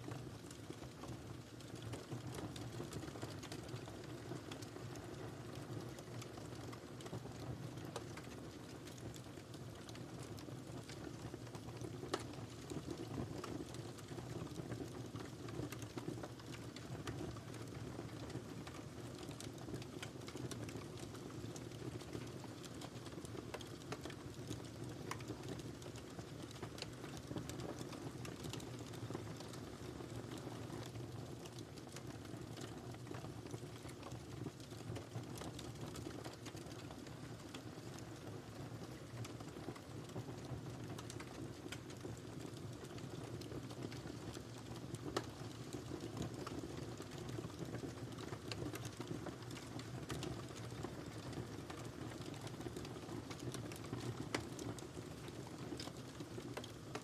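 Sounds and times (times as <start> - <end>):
fire crackling and popping: 0.1 - 57.0
low rumble of flames: 0.1 - 57.0.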